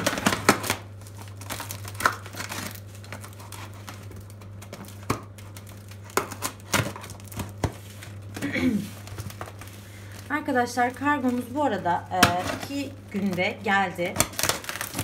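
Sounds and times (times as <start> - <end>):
packing tape crinkling and ripping: 0.0 - 15.0.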